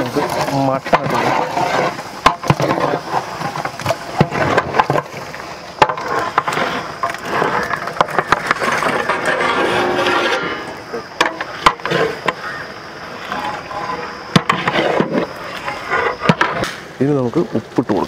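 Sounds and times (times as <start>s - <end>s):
metal knocking and scraping a pot: 0.0s - 12.5s, 13.3s - 16.8s.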